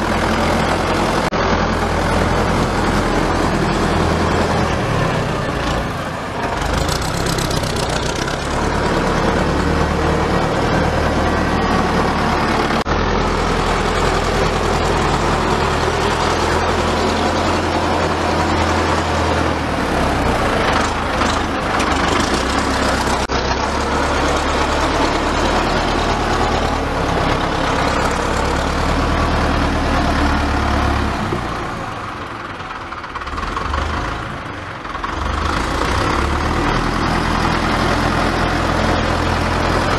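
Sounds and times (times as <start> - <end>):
dozer blade pushing soil: 0.0 - 32.1, 35.1 - 39.9
tractor engine running under load: 0.0 - 39.9.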